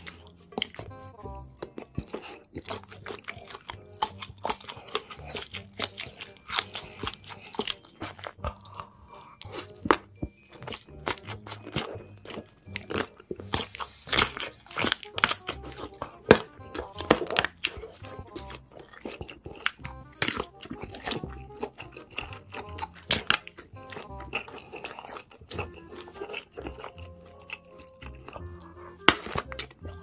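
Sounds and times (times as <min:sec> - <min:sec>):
sausage casings crunching: 0:00.0 - 0:30.0
wet chewing: 0:00.0 - 0:30.0.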